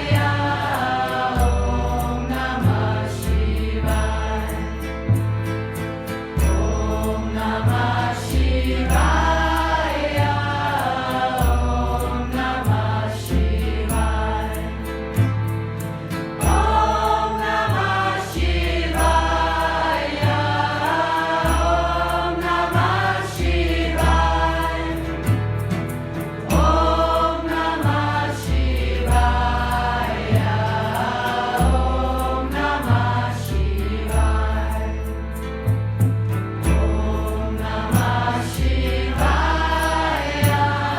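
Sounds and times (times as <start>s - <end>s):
bass line: 0.0s - 40.9s.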